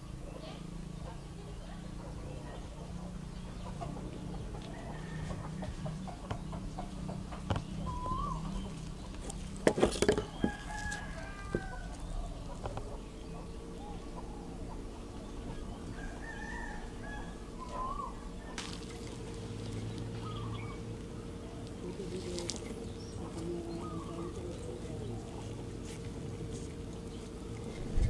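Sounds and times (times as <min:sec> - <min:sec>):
chickens clucking: 0:00.0 - 0:28.0
steady low hum: 0:00.0 - 0:28.0.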